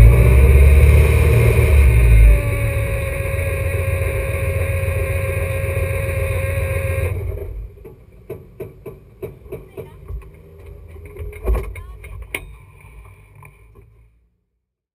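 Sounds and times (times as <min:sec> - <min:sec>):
car engine idling: 0:00.0 - 0:13.3.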